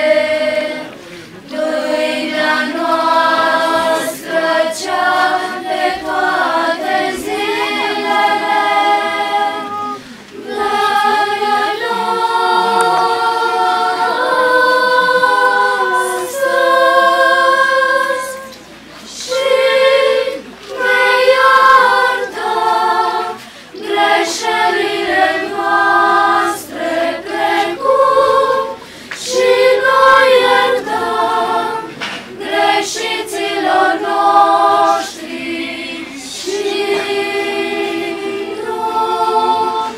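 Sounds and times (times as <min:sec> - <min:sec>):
girls' choir singing: 0:00.0 - 0:39.9.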